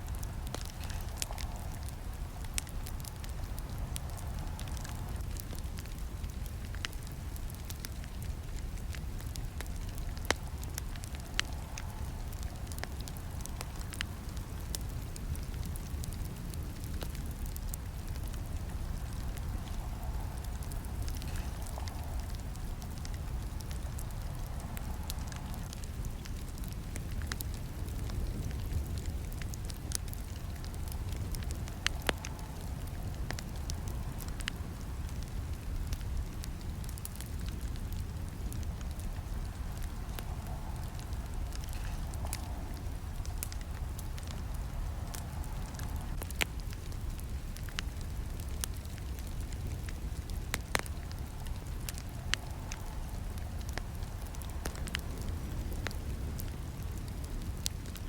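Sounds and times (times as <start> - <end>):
burning wood crackling and popping: 0.0 - 58.0
campfire flames rumbling: 0.0 - 58.0.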